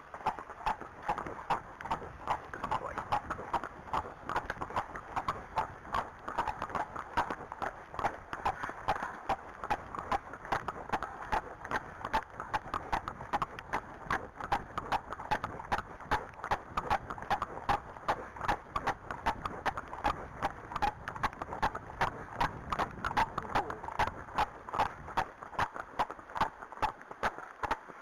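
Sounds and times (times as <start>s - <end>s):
horse hooves on tarmac: 0.0s - 28.0s.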